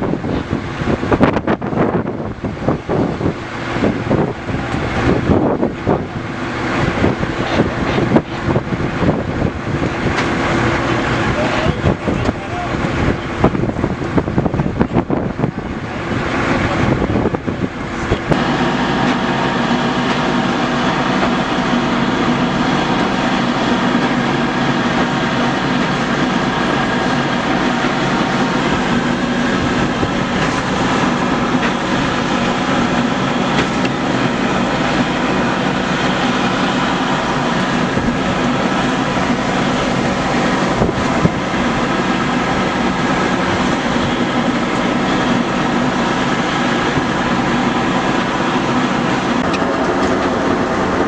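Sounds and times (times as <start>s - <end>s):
truck engine running: 0.0s - 51.0s
wind buffeting microphone: 0.0s - 51.0s.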